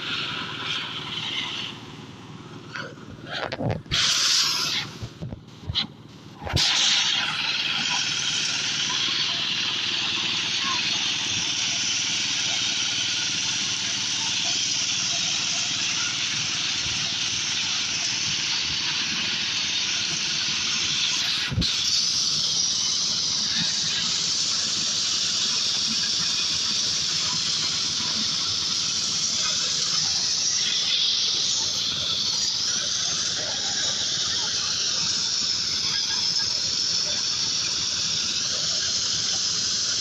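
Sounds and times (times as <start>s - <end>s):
corn sheller machine hissing: 0.0s - 40.0s.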